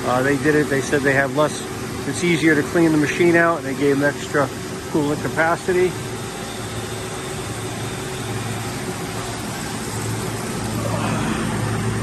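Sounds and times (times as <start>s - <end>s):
machinery humming and hissing: 0.0s - 12.0s.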